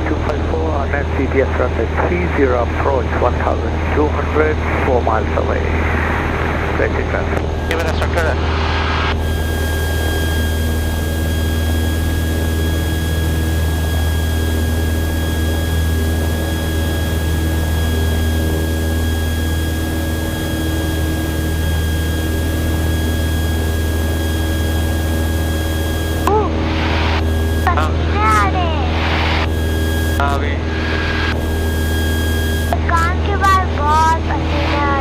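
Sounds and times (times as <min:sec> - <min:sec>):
airplane engine and propeller droning: 0:00.0 - 0:35.0
high-pitched whine: 0:00.0 - 0:35.0.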